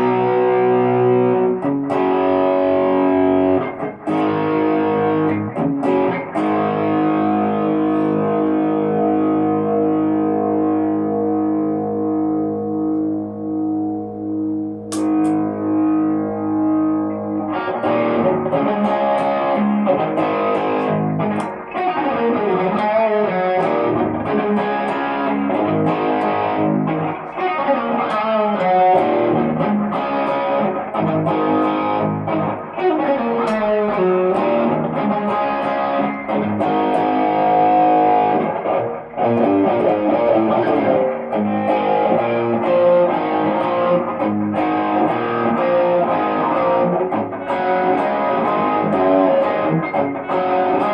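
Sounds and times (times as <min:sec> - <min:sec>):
distorted electric guitar: 0:00.0 - 0:50.9.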